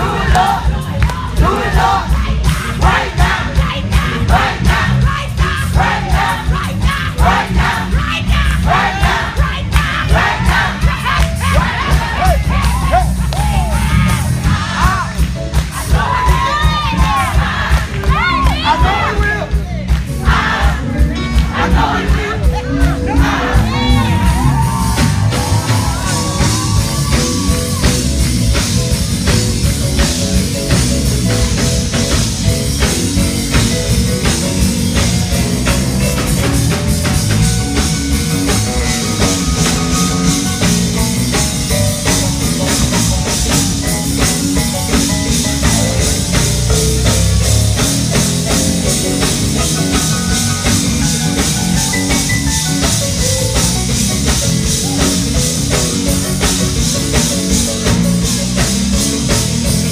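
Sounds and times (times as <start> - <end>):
drum kit: 0.0 - 59.9
gospel band playing: 0.0 - 59.9.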